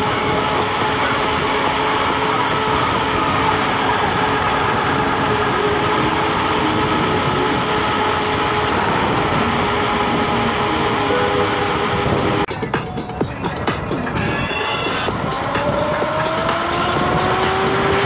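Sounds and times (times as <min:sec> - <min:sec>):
electric motor whine: 0:00.0 - 0:12.5, 0:14.2 - 0:18.0
wind and road noise: 0:00.0 - 0:18.0.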